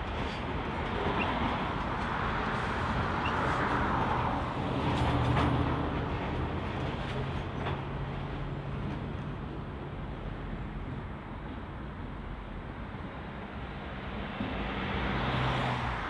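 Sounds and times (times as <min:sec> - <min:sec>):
train wagons rolling on rails: 0:00.0 - 0:16.0.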